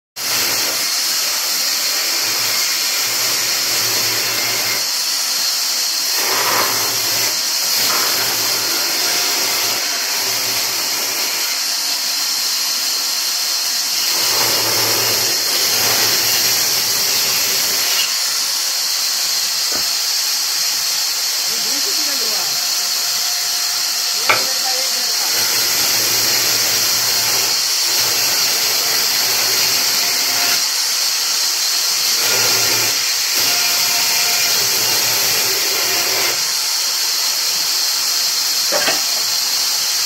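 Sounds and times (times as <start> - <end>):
band saw cutting wood: 0.2 - 40.0.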